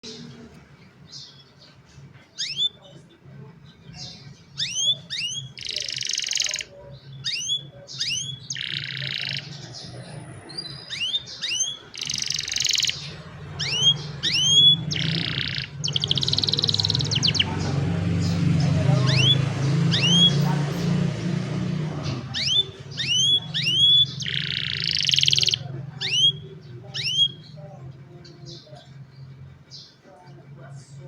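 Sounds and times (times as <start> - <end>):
canaries singing: 0.0 - 31.0.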